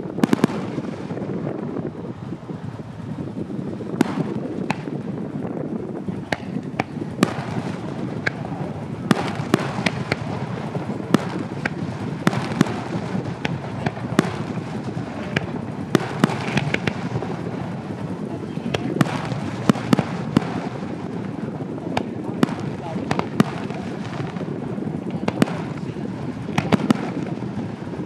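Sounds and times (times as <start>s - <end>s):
fireworks bangs: 0.0s - 28.0s
steady background noise: 0.0s - 28.0s.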